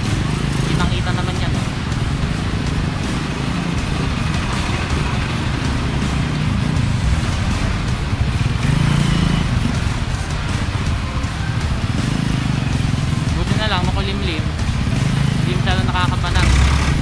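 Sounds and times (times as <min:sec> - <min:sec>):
road noise: 0:00.0 - 0:17.0
truck engines rumbling: 0:00.0 - 0:17.0.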